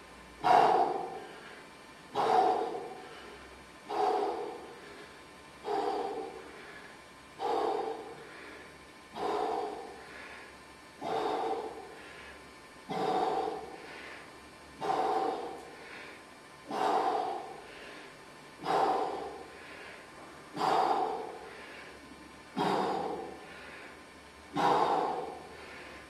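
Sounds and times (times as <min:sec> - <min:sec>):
man breathing out forcefully: 0:00.4 - 0:26.0.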